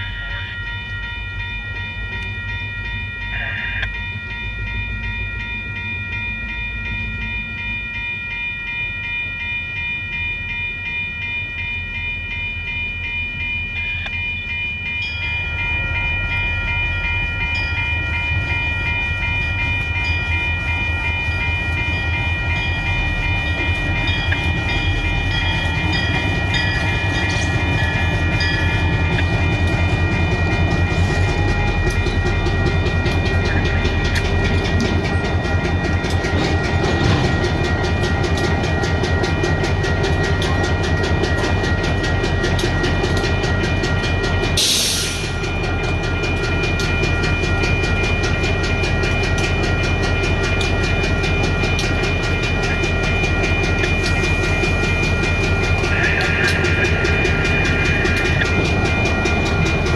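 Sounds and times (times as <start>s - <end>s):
diesel locomotive engine rumble: 0.0s - 59.9s
railroad crossing bell ringing: 0.0s - 59.9s.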